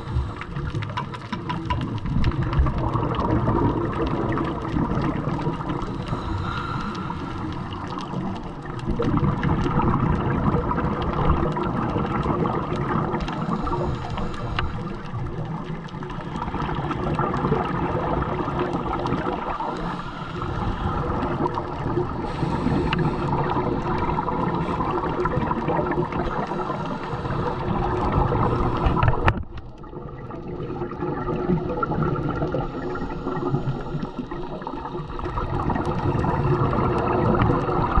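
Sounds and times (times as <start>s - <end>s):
underwater regulator bubbles gurgling: 0.0s - 38.0s.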